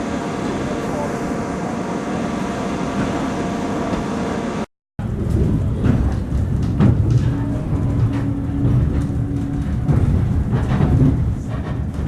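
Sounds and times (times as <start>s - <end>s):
train rumbling along line: 0.0s - 12.0s.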